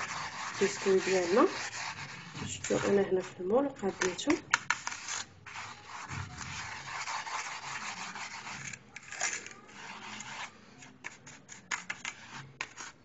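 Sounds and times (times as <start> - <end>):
crumbs rubbing and scraping: 0.0 - 13.0.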